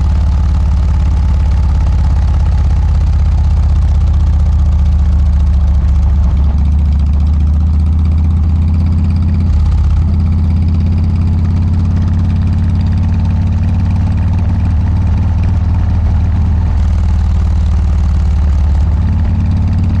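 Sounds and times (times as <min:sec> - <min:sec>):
motorcycle engine running at low revs: 0:00.0 - 0:20.0.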